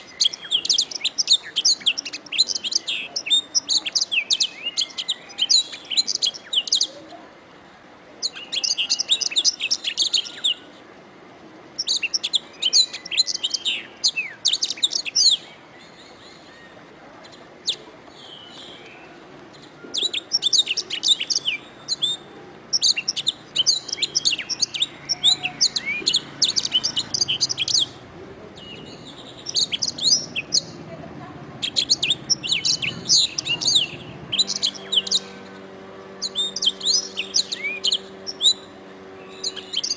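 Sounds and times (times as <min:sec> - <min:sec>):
canary singing trills: 0:00.0 - 0:07.2, 0:08.2 - 0:10.8, 0:11.8 - 0:39.9.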